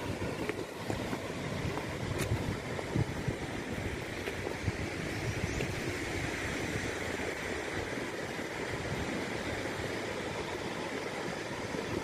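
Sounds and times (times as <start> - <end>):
waves breaking on sandy shore: 0.0 - 12.0
wind buffeting microphone: 0.0 - 12.0.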